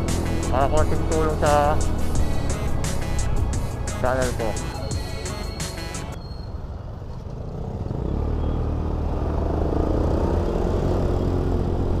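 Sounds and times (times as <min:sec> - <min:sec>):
scooter engine rumbling: 0:00.0 - 0:12.0.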